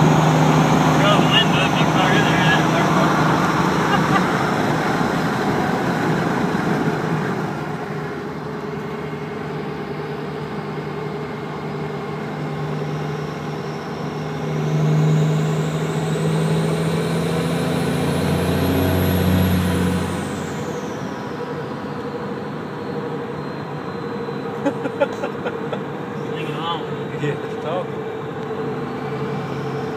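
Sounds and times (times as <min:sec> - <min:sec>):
diesel engine under throttle: 0:00.0 - 0:29.9.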